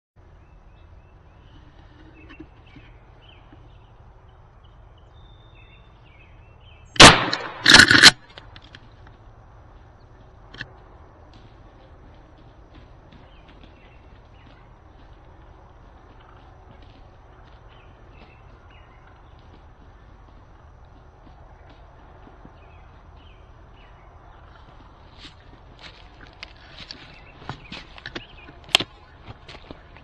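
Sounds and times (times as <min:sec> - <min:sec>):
faint songbird chirps: 0:00.2 - 0:07.0, 0:11.2 - 0:30.0.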